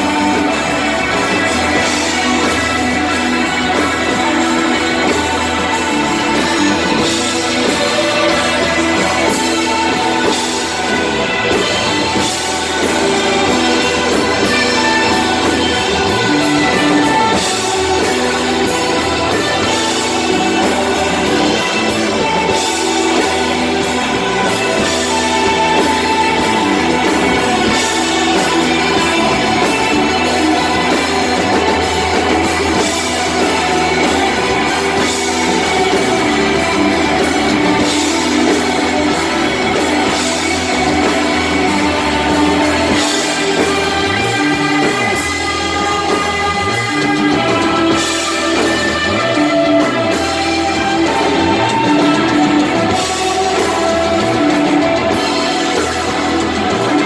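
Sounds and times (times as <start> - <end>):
bass guitar: 0.0 - 57.0
drum kit with cymbals: 0.0 - 57.0
electric guitar: 0.0 - 57.0.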